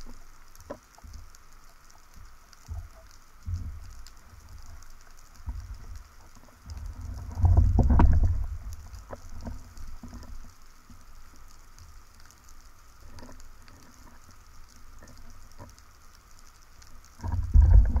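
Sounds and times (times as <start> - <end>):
faint clicks: 0.0 - 18.0
underwater water rumbling: 0.0 - 18.0.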